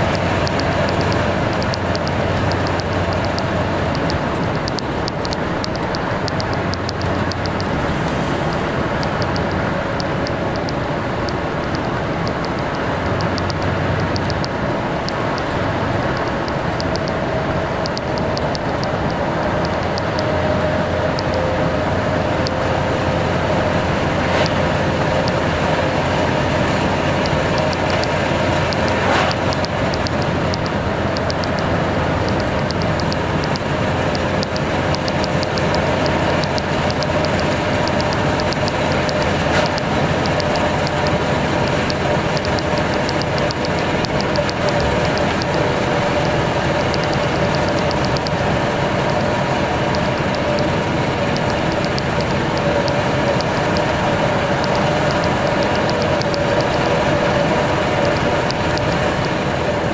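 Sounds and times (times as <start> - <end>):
engine drone: 0.0 - 59.9
light rapid ticking: 0.0 - 59.9.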